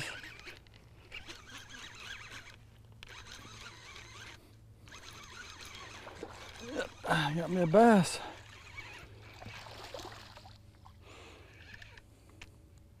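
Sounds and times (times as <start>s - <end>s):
fishing reel whirring: 0.0s - 12.5s.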